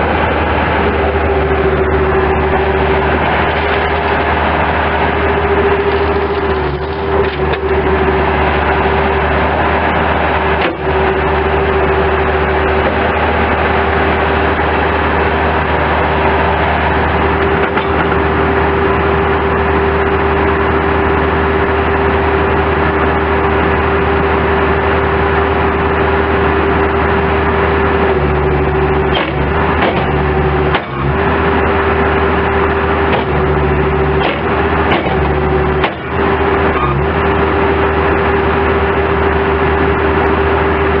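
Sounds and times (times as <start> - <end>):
loader diesel engine running: 0.0 - 41.0
steady whine: 0.0 - 41.0.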